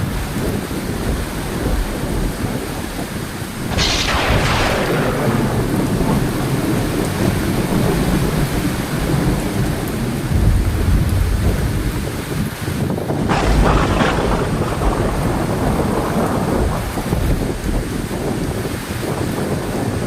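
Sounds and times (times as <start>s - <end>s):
heavy rain falling: 0.0s - 20.0s
thunderclap and low rumble: 0.0s - 20.0s.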